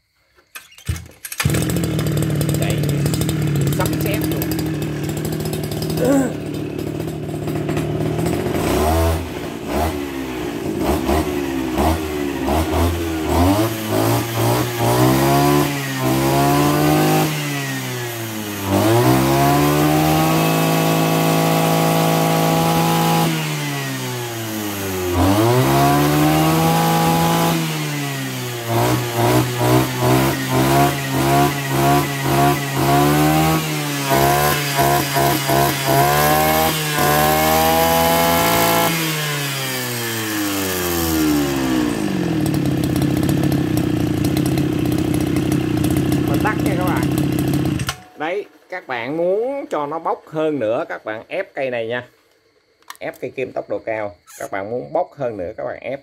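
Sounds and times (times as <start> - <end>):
brush cutter engine revving: 0.6 - 49.1.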